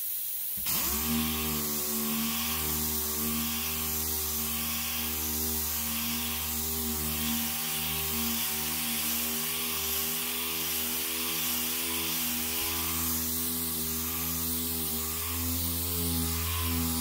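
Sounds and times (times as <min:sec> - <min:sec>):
air sander humming with air hiss: 0:00.6 - 0:17.0.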